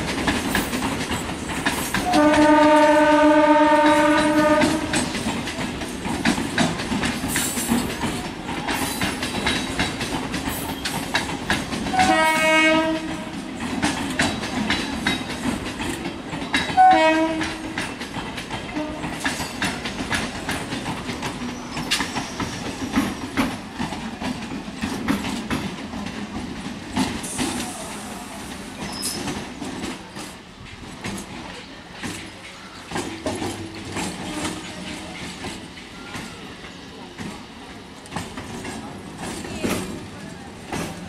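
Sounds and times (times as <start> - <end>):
train running rumble: 0.0 - 41.0
train wheels clattering over rail joints: 0.0 - 41.0.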